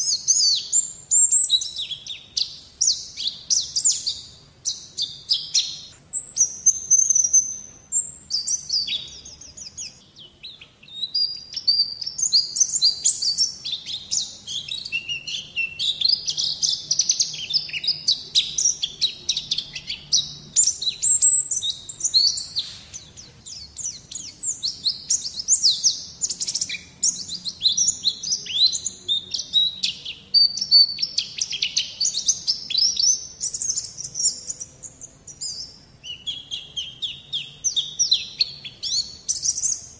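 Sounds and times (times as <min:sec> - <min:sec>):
bird twittering and warbling: 0:00.0 - 0:39.9.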